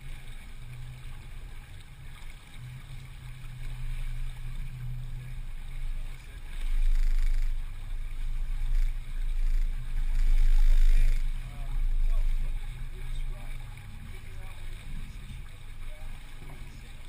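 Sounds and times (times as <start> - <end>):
boat hum: 0.0 - 17.0
wind rumbling on microphone: 0.0 - 17.0.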